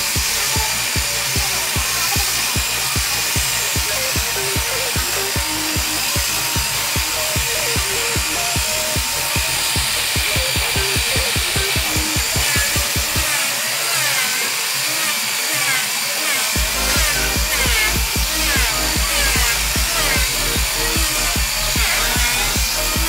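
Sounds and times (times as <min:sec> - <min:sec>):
music with steady beat: 0:00.0 - 0:13.5, 0:16.6 - 0:23.0
electric belt sander running: 0:00.0 - 0:23.0.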